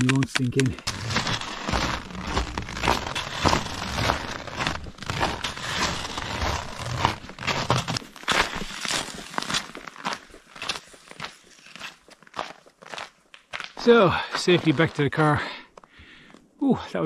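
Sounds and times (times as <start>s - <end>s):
footsteps crunching in snow: 0.7s - 15.6s.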